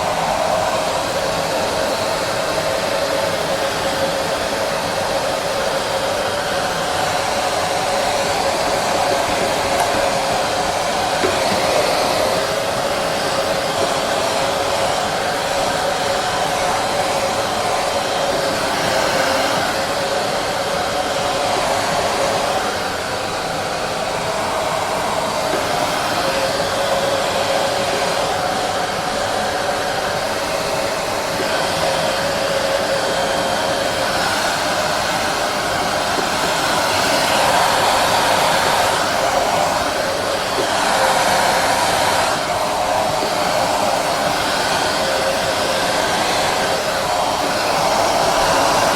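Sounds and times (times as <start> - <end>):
hair dryer blowing air: 0.0 - 48.9.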